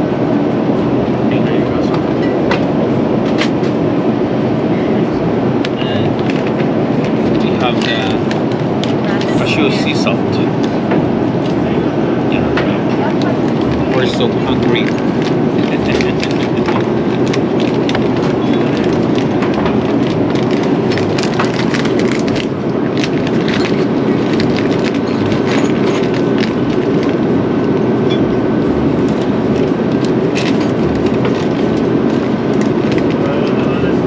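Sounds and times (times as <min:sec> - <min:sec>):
airliner cabin engine rush: 0:00.0 - 0:34.0.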